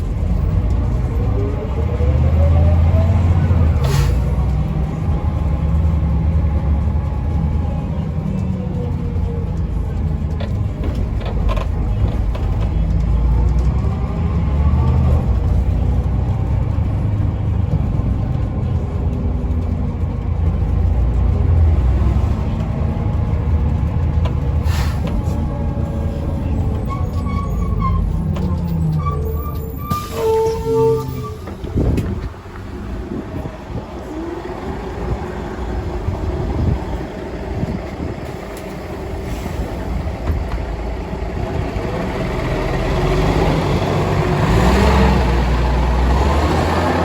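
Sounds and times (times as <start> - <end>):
bus diesel engine rumble: 0.0 - 47.0
road noise: 0.0 - 47.0.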